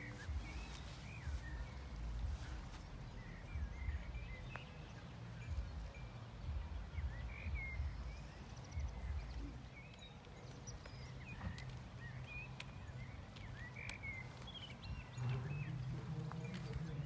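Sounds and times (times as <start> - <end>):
songbirds chirping and whistling: 0.0 - 17.0.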